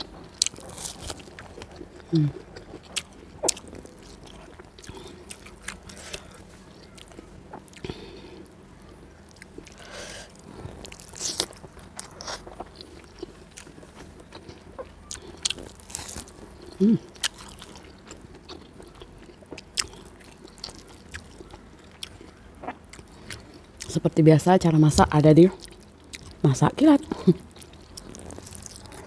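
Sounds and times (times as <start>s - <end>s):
wet chewing: 0.0s - 8.5s, 9.2s - 24.0s, 27.0s - 29.0s
crunching fried tofu: 0.0s - 24.0s, 25.6s - 29.0s.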